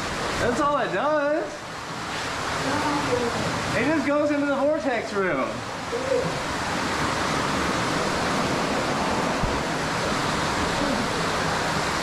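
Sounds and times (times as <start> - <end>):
water rushing in a cave: 0.0 - 12.0.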